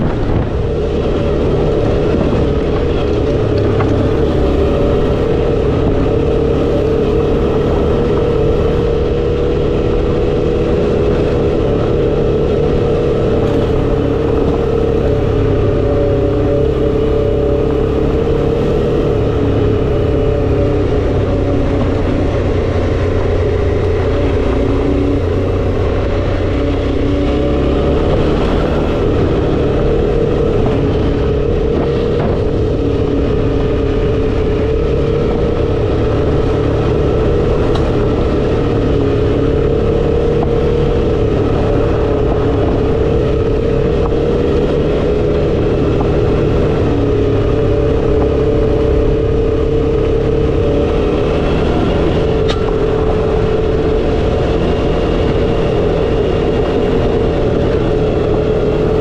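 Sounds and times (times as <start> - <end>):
motorcycle engine cruising: 0.0 - 59.0
wind and tyre noise: 0.0 - 59.0.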